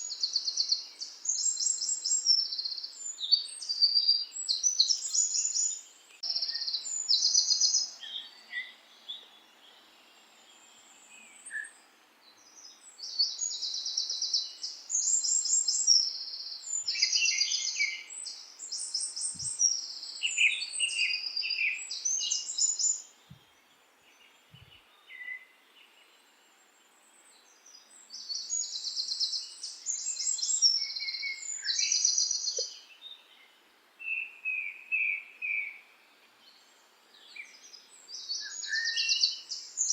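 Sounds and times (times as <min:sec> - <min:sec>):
faint background hiss: 0:00.0 - 0:39.9
songbirds trilling and chirping: 0:00.0 - 0:39.9.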